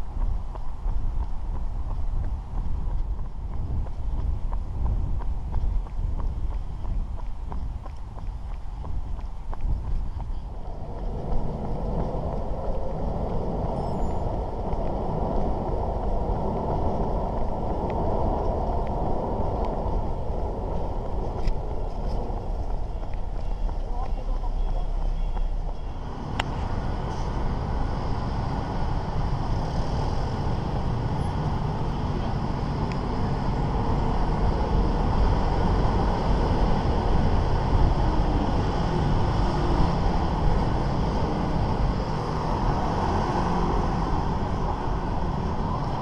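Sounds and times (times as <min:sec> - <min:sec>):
engine and traffic rumble: 0:00.0 - 0:46.0
wind noise on microphone: 0:00.0 - 0:46.0.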